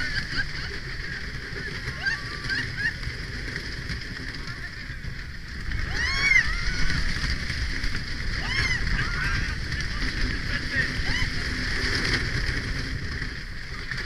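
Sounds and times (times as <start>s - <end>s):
riders yelling: 0.0s - 12.6s
roller coaster rumbling on track: 0.0s - 14.0s
wind rushing: 1.2s - 14.0s.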